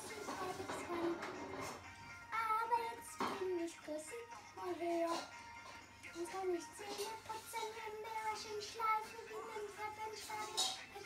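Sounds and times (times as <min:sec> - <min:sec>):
children's song melody: 0:00.0 - 0:11.0.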